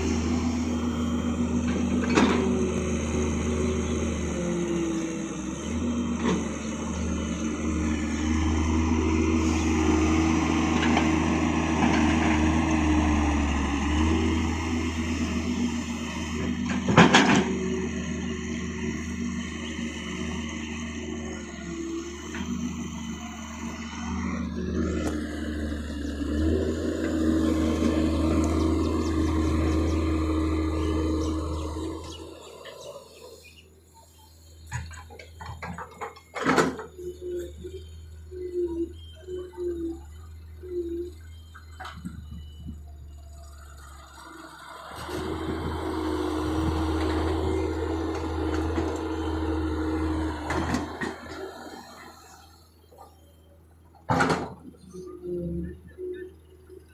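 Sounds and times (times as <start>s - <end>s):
heavy machine engine running: 0.0s - 56.9s
hydraulic whine: 0.0s - 56.9s.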